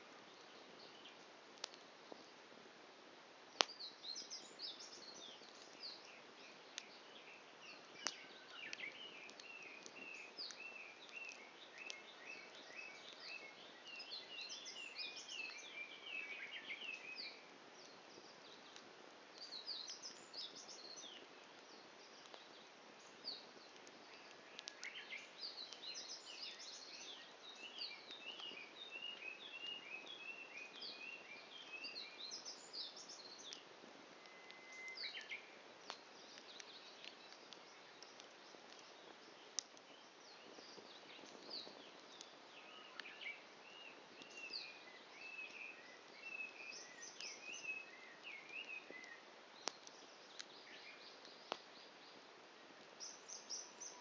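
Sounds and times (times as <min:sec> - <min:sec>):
wood fire crackling: 0:00.0 - 0:54.0
birds singing: 0:03.6 - 0:52.3, 0:52.9 - 0:54.0.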